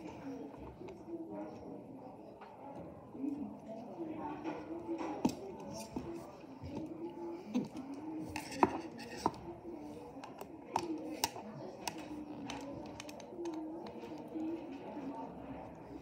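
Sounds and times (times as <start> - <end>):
faint murmur of voices: 0.0 - 16.0.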